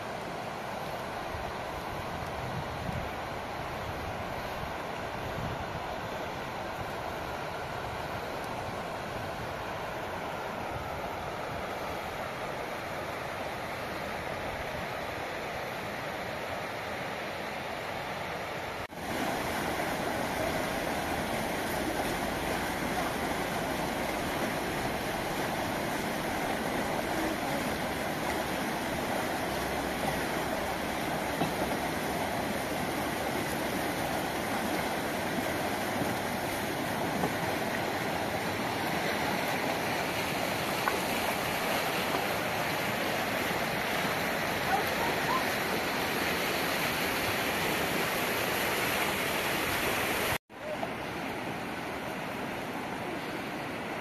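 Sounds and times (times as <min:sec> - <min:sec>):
river rushing over rocks: 0:00.0 - 0:54.0.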